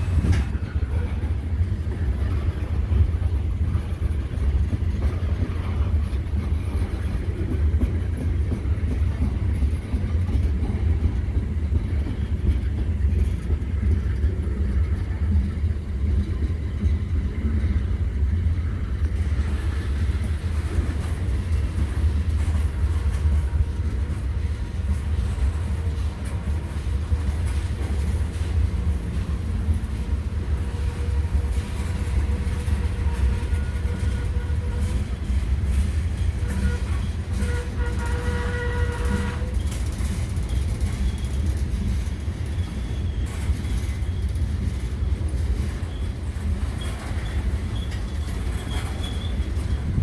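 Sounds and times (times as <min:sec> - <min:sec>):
locomotive engine rumble: 0:00.0 - 0:50.0.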